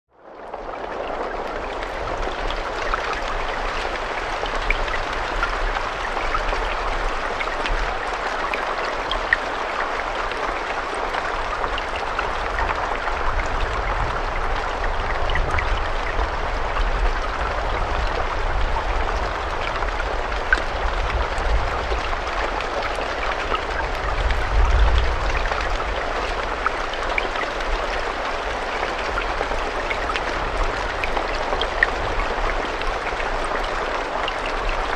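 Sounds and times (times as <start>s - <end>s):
steady rain: 0.1s - 34.9s
raindrops ticking: 0.3s - 34.9s.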